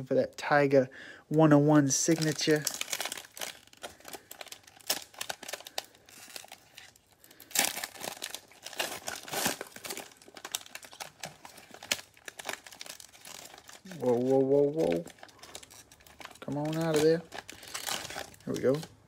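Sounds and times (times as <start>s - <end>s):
plastic wrapper crinkling and tearing: 1.4s - 19.0s.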